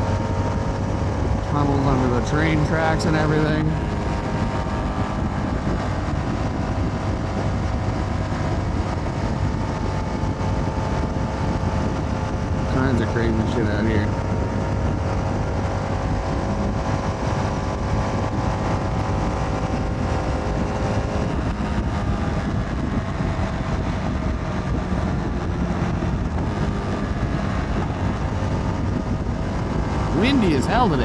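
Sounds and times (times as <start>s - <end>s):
motorcycle engine cruising: 0.0s - 31.0s
wind buffeting microphone: 0.0s - 31.0s.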